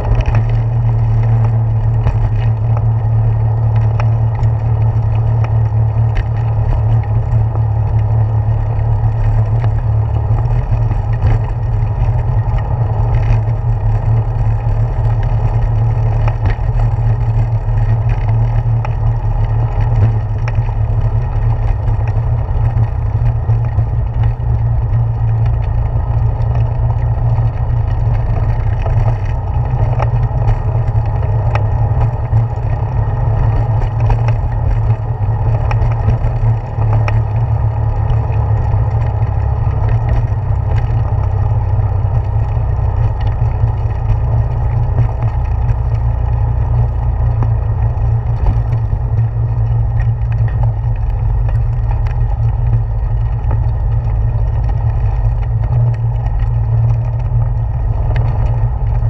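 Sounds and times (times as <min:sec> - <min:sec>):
bicycle tyres on wooden boardwalk: 0:00.0 - 0:59.0
small clicks and rattles: 0:00.0 - 0:59.0.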